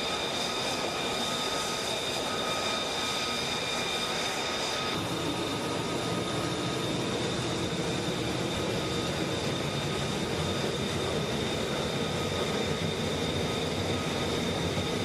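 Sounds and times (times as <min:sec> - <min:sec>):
jet engine running: 0:00.0 - 0:15.0.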